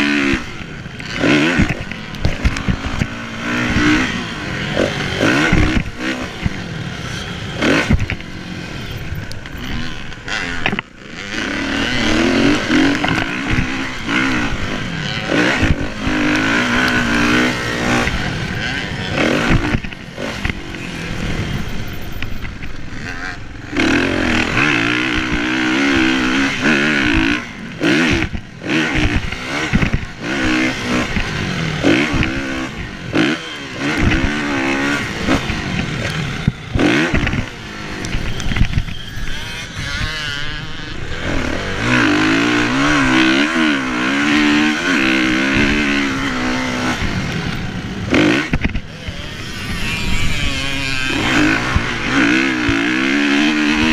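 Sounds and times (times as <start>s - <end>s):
motorcycle engine revving hard: 0.0s - 53.9s.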